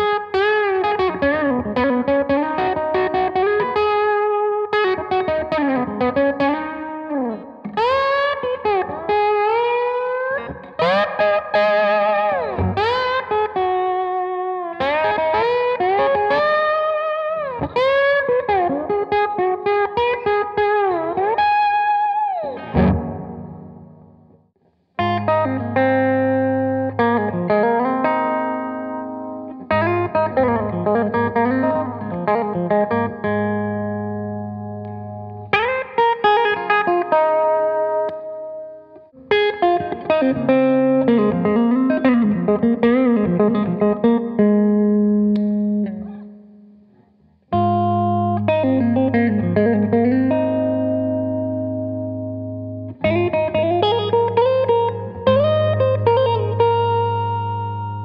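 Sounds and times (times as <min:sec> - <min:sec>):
electric guitar through amp: 0:00.0 - 0:24.4, 0:25.0 - 0:58.0.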